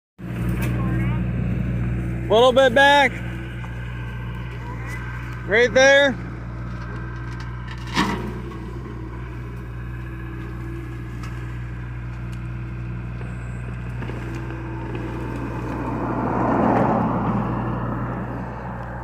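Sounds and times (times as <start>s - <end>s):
excavator diesel engine running: 0.2s - 19.0s.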